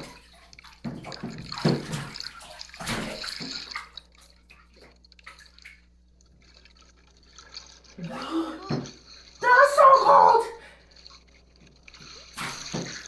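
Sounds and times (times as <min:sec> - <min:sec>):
pool water splashing and gurgling: 0:00.0 - 0:13.0
water dripping: 0:00.0 - 0:13.0.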